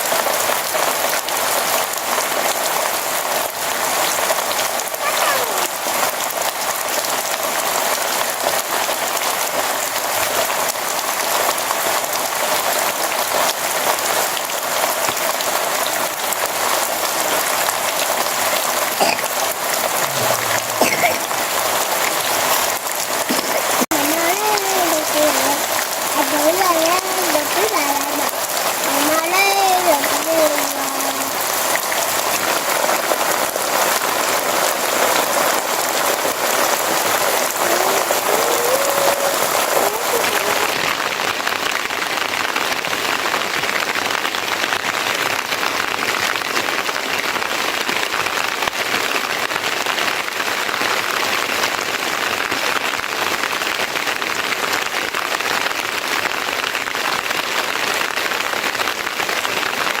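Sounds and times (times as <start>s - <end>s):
rain pattering: 0.0s - 60.0s.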